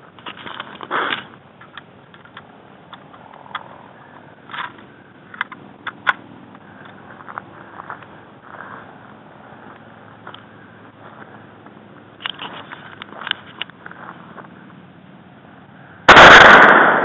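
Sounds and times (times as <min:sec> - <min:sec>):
handling rustle: 0:00.0 - 0:14.7.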